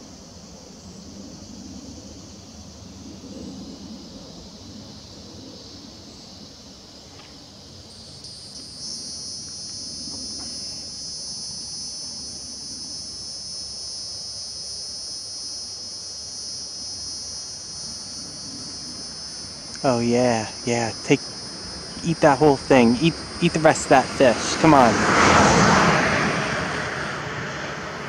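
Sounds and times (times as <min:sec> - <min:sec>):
insects chorusing: 0:00.0 - 0:28.0.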